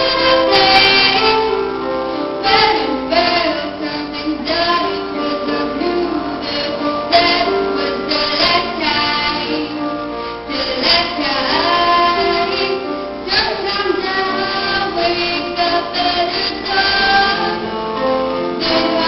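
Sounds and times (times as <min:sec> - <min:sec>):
woman singing a pop ballad: 0:00.0 - 0:01.6, 0:02.4 - 0:17.6, 0:18.6 - 0:19.0
instrumental accompaniment: 0:00.0 - 0:19.0.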